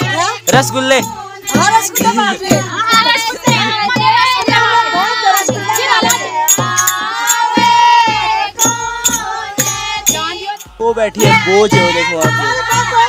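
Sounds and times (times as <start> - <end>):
barrel hand drum beating: 0.0 - 13.0
women singing together: 0.0 - 13.0.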